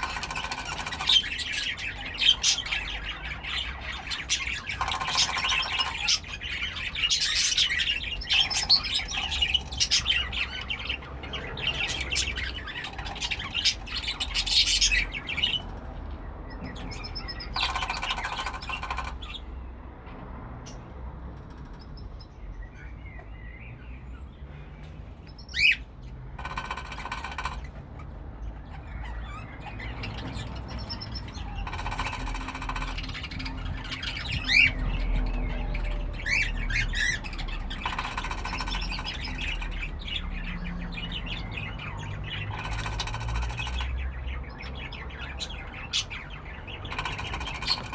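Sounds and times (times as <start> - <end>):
cockatiels chirping: 0.0 - 15.8, 16.5 - 19.5, 25.2 - 47.9.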